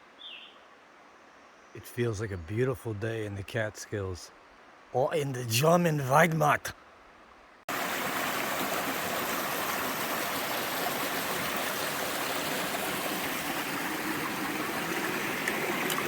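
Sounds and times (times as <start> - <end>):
stream water running: 2.0 - 6.7, 7.6 - 16.0.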